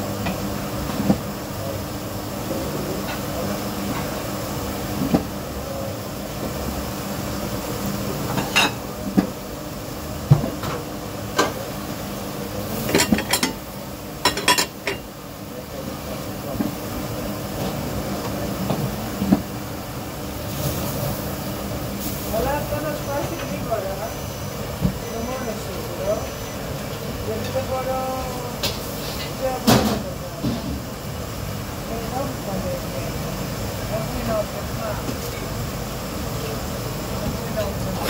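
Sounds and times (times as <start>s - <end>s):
kitchen equipment humming: 0.0s - 38.0s.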